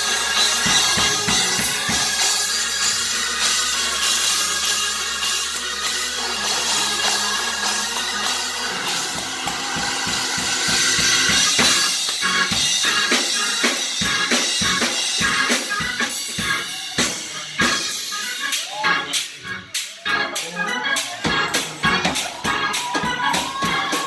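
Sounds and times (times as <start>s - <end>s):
drum kit fast beat: 0.0s - 24.0s
sustained keyboard chords: 0.0s - 24.0s.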